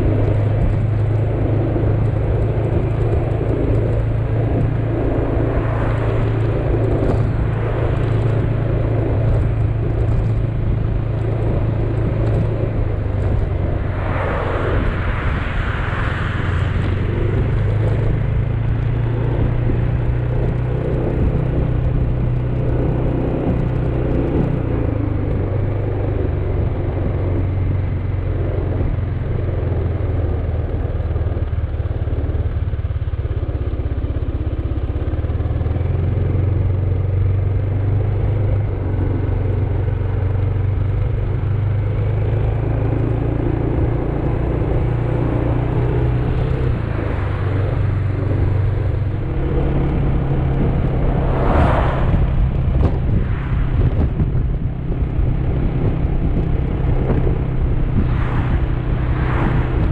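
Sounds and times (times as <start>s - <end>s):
road and wind noise: 0.0s - 59.9s
wind gusts on microphone: 0.0s - 59.9s.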